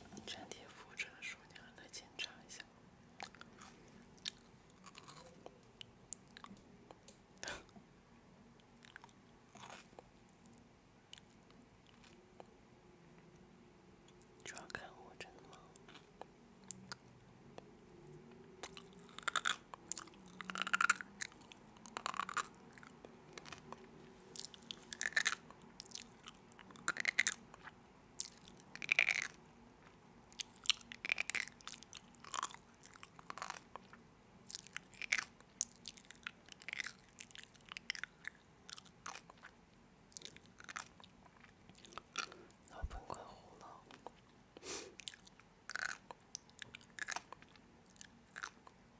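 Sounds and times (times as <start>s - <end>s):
person chewing crisp food: 3.2s - 7.7s, 8.8s - 12.2s, 15.4s - 17.1s, 18.6s - 48.8s.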